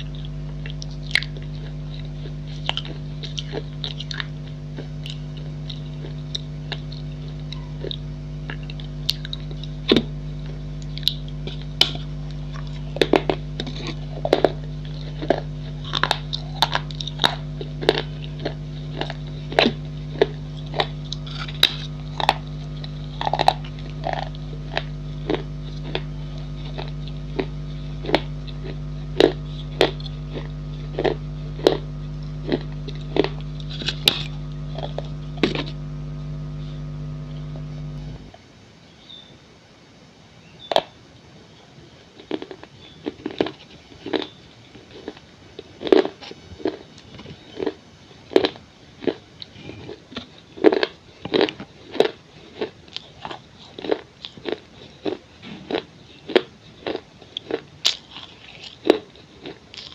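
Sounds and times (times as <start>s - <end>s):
clay pieces crunched by chewing: 0.0s - 38.3s, 42.1s - 59.9s
steady low hum: 0.0s - 59.9s.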